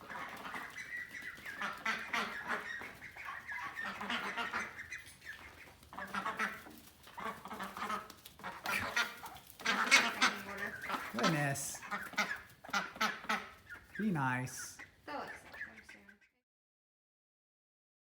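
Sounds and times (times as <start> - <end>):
ducks quacking: 0.0 - 16.4.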